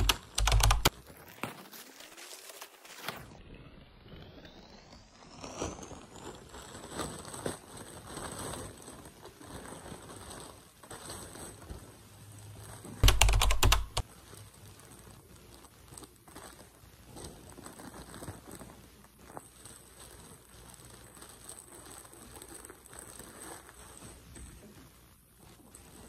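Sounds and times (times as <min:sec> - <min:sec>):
plastic packaging crinkling: 0:00.0 - 0:03.2, 0:05.3 - 0:26.0.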